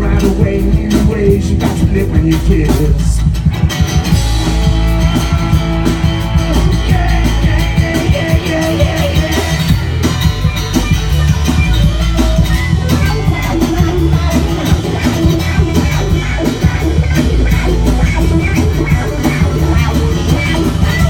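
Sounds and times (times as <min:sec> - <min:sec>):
bass guitar: 0:00.0 - 0:21.0
drum kit: 0:00.0 - 0:21.0
electric guitar lines: 0:00.0 - 0:21.0.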